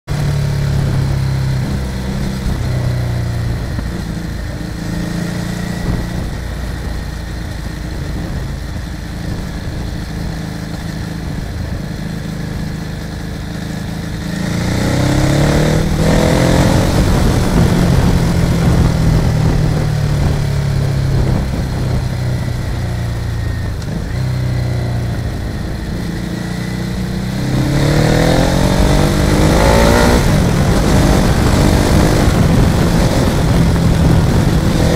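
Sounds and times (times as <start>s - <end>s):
motorcycle engine revving: 0.0s - 34.9s
road and wind noise: 0.0s - 34.9s.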